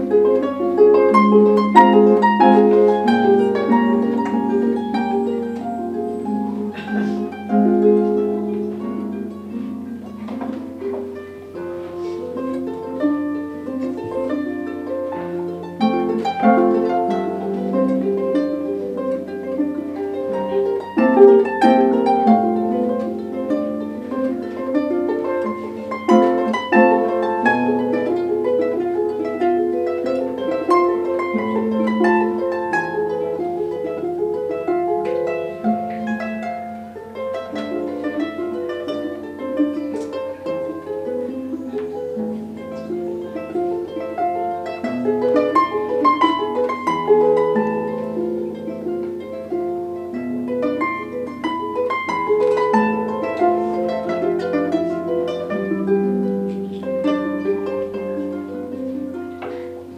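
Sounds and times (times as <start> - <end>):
harp playing plucked notes: 0.0 - 59.9.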